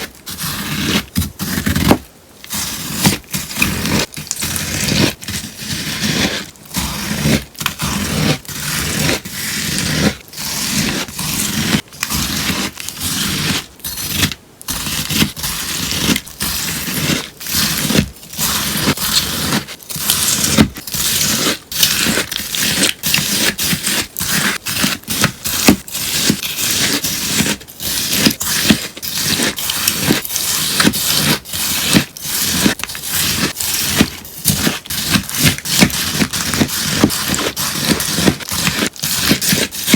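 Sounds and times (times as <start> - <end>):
foam sponge being cut: 0.0 - 39.9.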